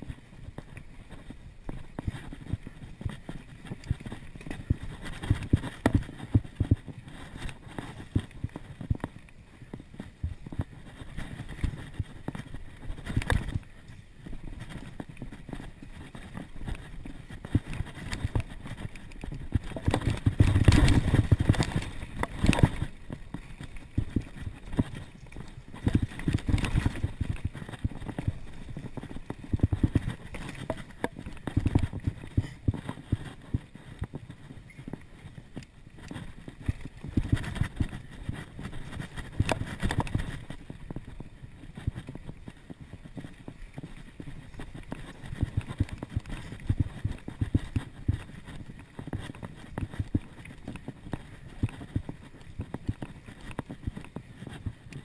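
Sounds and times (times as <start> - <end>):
bike rattling over bumps: 0.0 - 55.0
bike tyres rolling over dirt: 0.0 - 55.0.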